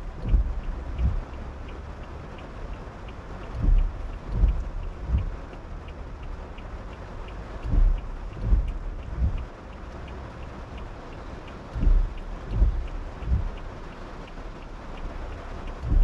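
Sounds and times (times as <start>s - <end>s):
low thuds: 0.0s - 1.8s, 2.6s - 9.8s, 11.4s - 13.9s, 14.5s - 16.0s
faint ticking: 0.0s - 16.0s
rain on a moving car: 0.0s - 16.0s.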